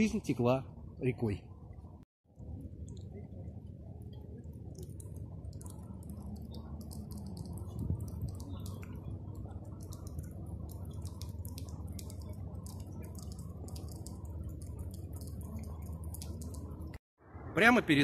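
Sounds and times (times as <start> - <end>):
low steady rumble: 0.0 - 18.0
raindrops ticking: 2.3 - 17.0.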